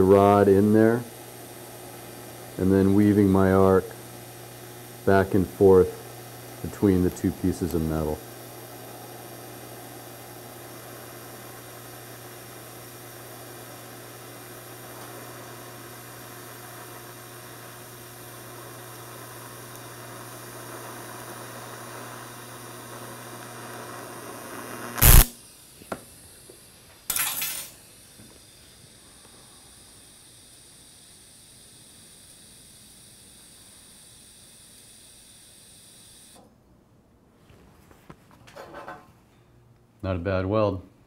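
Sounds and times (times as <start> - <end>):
welding arc hum and hiss: 0.0 - 36.6.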